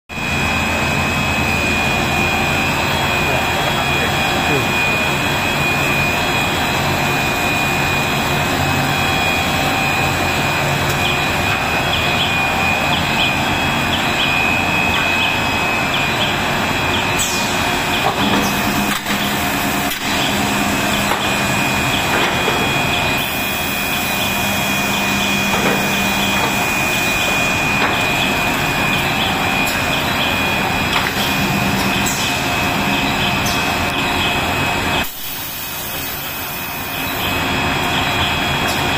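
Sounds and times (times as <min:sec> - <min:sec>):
high-pitched machine whine: 0:00.1 - 0:38.9
machinery hum and rush: 0:00.1 - 0:38.9.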